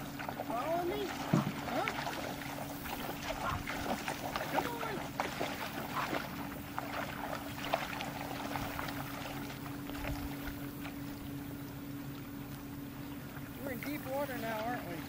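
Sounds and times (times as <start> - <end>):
shallow water splashing: 0.0 - 15.0
steady low hum: 0.0 - 15.0.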